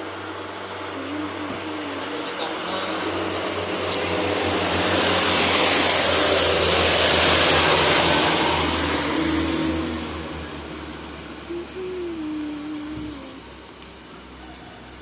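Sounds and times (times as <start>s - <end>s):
diesel truck engine drone: 0.0s - 15.0s.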